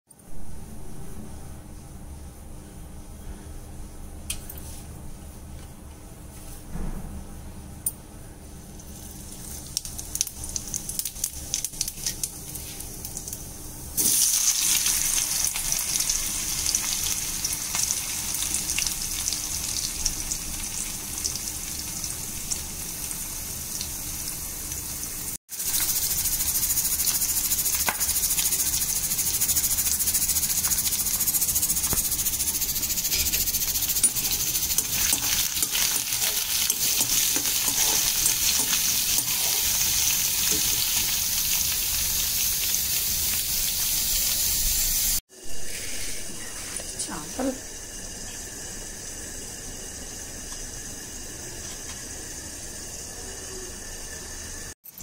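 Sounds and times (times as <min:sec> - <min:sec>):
seeds crackling in hot oil: 0:08.7 - 0:53.0
potatoes sizzling in oil: 0:08.7 - 0:53.1.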